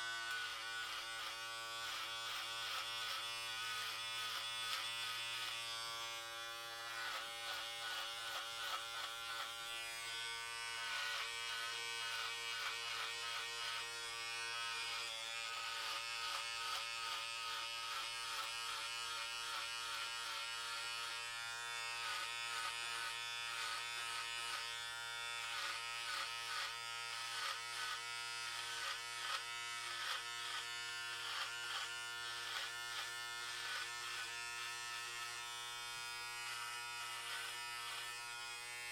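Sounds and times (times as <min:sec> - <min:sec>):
electric hair clippers buzzing: 0:00.0 - 0:38.9.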